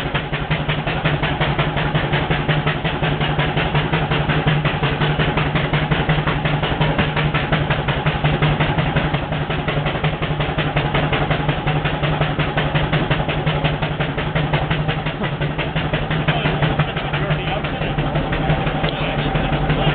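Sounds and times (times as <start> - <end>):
low hum: 0.0 - 19.9
steam engine exhaust chuffing: 0.0 - 19.9.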